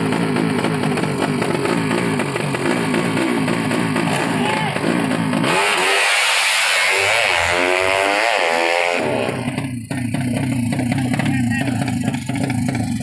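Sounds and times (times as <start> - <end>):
motorcycle engines revving hard: 0.0 - 13.0.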